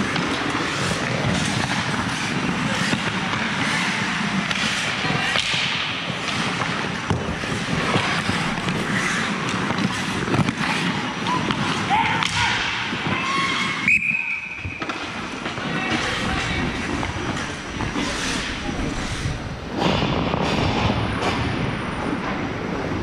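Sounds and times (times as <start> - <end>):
hockey sticks and puck clacking: 0.0 - 23.0
skate blades scraping ice: 0.0 - 23.0.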